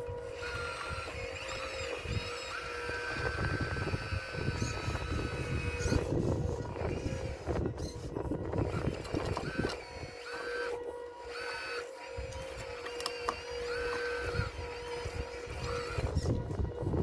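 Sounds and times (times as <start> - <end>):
electric motors whining: 0.0 - 17.0
steady hum: 0.0 - 17.0.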